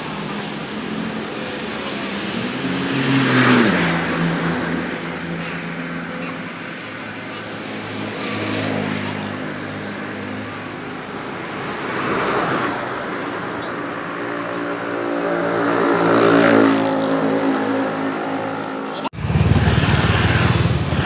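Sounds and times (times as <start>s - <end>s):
street traffic passing: 0.0s - 21.0s.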